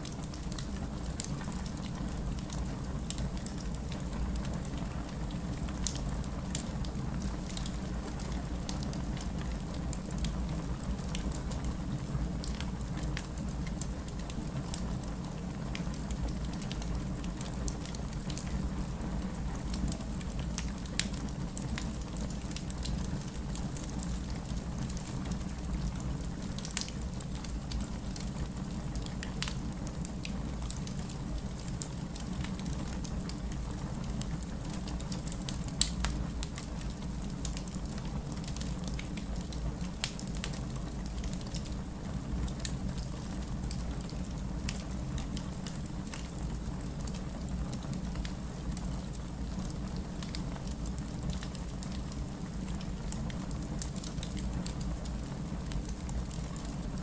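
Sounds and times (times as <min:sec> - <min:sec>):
burning wood crackling and popping: 0:00.0 - 0:57.0
low rumble of flames: 0:00.0 - 0:57.0.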